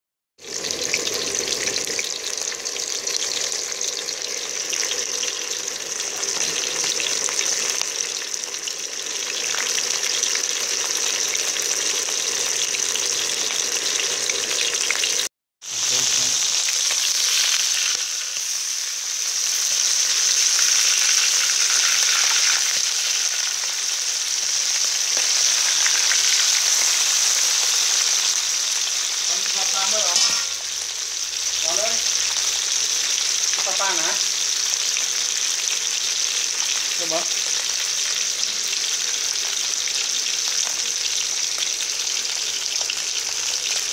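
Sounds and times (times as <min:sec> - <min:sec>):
fish sizzling in hot oil: 0:00.4 - 0:43.9.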